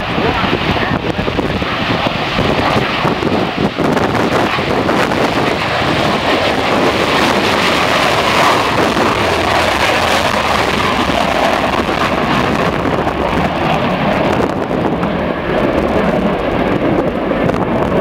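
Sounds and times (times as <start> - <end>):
aircraft engine roar: 0.0 - 18.0
wind buffeting microphone: 0.0 - 18.0.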